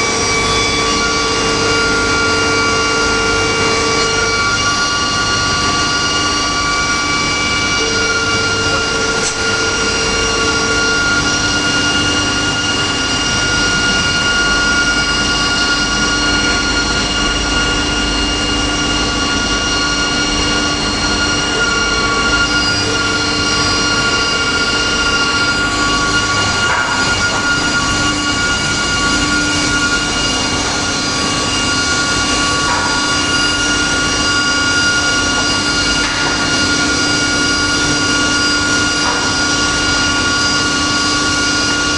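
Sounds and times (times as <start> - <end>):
machine whining tones: 0.0 - 41.9
saw machine noise: 0.0 - 41.9.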